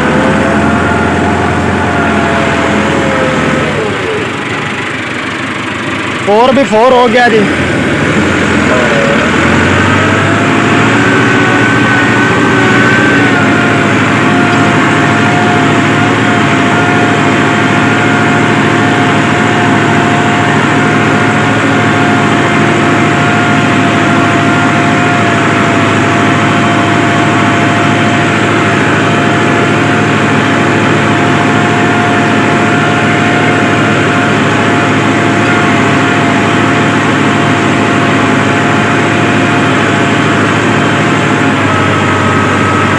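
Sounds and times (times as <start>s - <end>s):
steady drivetrain whine: 0.0s - 42.9s
tractor diesel engine running: 0.0s - 42.9s.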